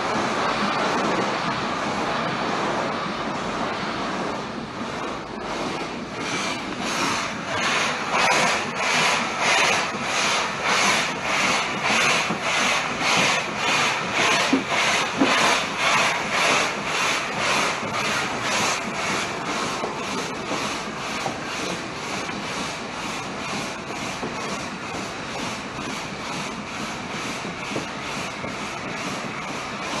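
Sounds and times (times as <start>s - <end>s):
steam locomotive chuffing: 0.0s - 30.0s.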